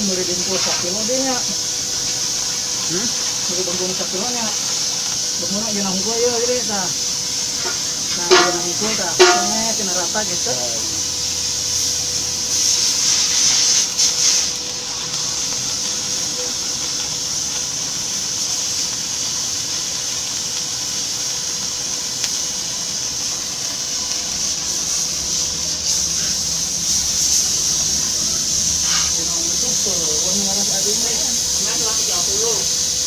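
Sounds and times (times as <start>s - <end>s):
compressed air hissing: 0.0s - 33.0s.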